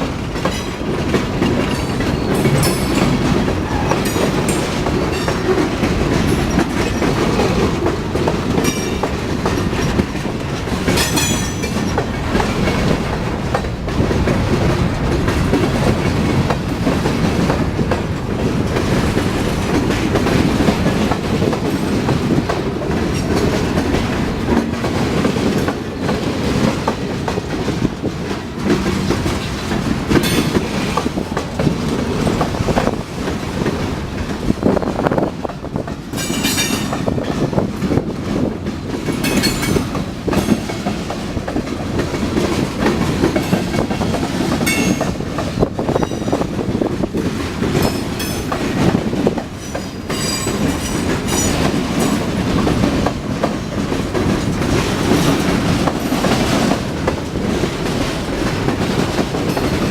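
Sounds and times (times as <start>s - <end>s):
train cars rumbling past: 0.0s - 59.9s
wheels clacking over rail joints: 0.0s - 59.9s.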